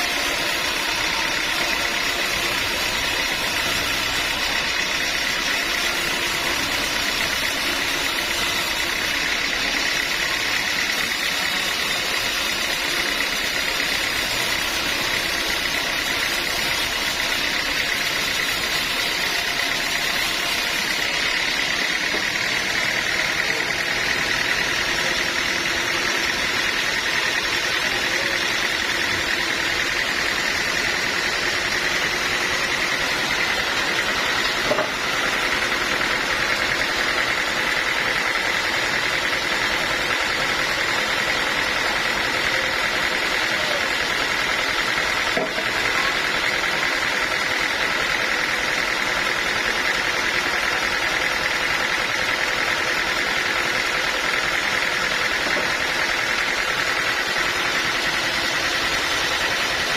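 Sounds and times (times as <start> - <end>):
high mechanical whine: 0.0 - 59.9
sawmill machinery running: 0.0 - 59.9.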